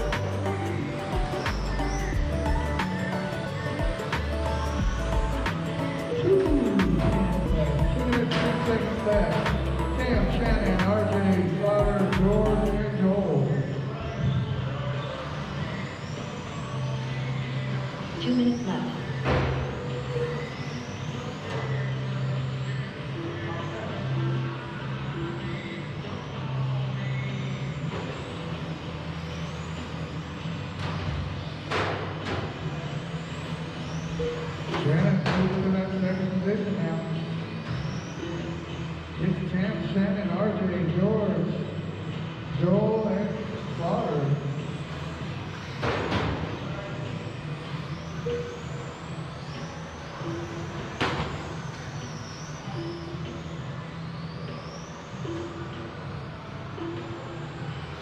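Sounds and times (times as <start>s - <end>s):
rc car motors whining: 0.0s - 40.1s, 40.8s - 58.0s
steady low hum: 0.0s - 58.0s.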